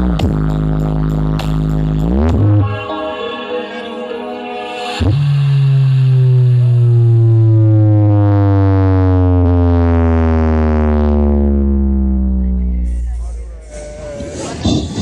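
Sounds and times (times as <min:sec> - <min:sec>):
deep bass sweep: 0:00.0 - 0:02.9, 0:04.8 - 0:15.0.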